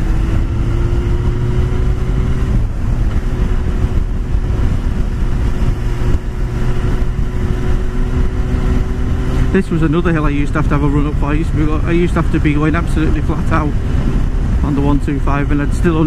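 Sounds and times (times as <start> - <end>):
motorcycle engine running: 0.0 - 16.0
road rumble: 0.0 - 16.0
wind noise: 0.0 - 16.0.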